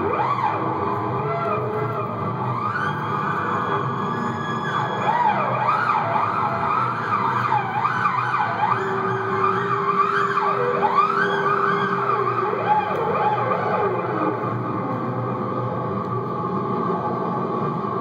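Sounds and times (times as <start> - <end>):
experimental electronic music: 0.0 - 18.0.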